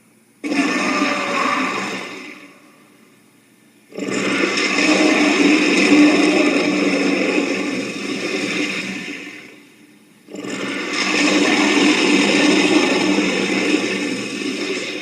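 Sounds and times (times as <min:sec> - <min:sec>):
creature roaring: 0:00.4 - 0:02.8, 0:03.9 - 0:09.4, 0:10.3 - 0:15.0.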